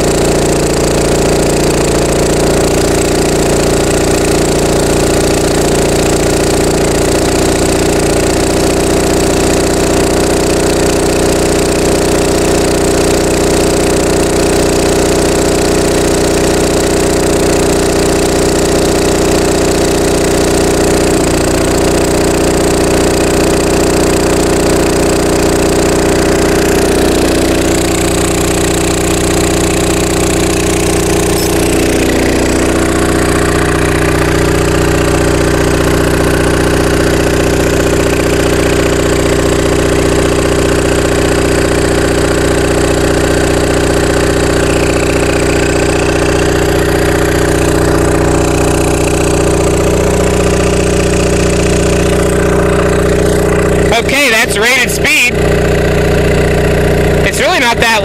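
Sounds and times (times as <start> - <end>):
diesel generator running: 0.0 - 58.0.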